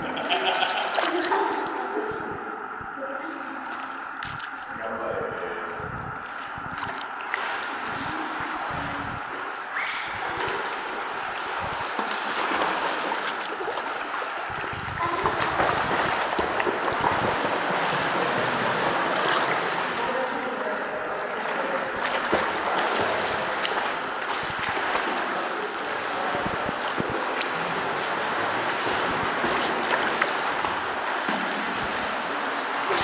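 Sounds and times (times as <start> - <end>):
pool water splashing: 0.0 - 33.0.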